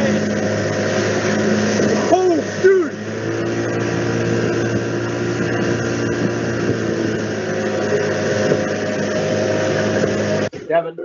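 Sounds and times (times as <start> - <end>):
motorboat engine running: 0.0 - 10.9.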